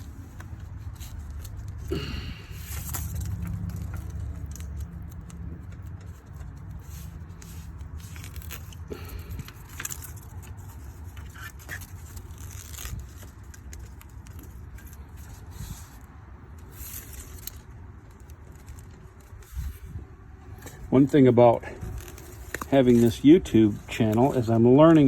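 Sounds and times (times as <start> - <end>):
foam strip peeling and rustling: 0.0 - 25.0.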